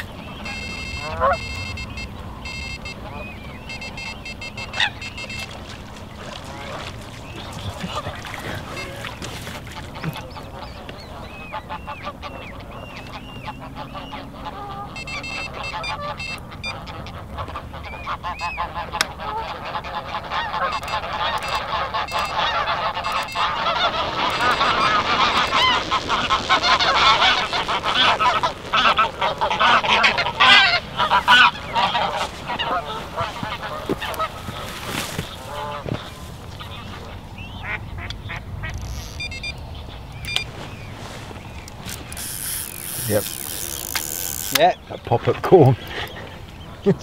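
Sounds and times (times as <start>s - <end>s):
geese honking: 0.0s - 47.0s.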